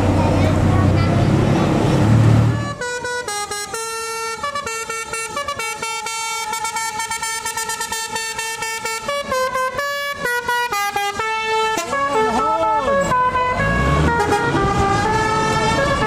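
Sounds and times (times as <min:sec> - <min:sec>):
multi-tone bus horn tune: 0:02.5 - 0:16.0.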